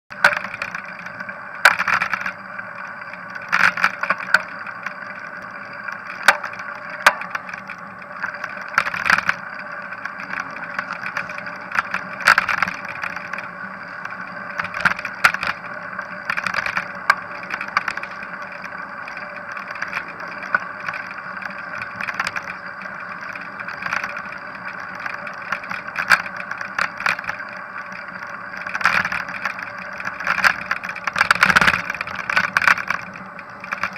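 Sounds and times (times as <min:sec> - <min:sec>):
bicycle tyres rolling hum: 0:00.1 - 0:33.9
bike rattling over bumps: 0:00.1 - 0:33.9.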